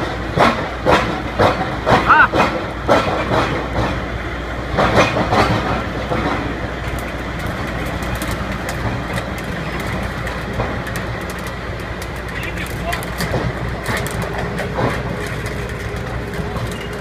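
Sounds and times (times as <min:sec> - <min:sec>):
drilling rig engine running: 0:00.0 - 0:17.0.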